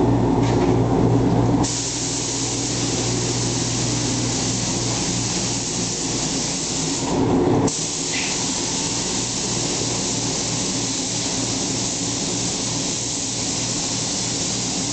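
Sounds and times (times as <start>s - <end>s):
low mechanical hum: 0.0s - 14.9s
air machinery hiss: 1.6s - 14.9s.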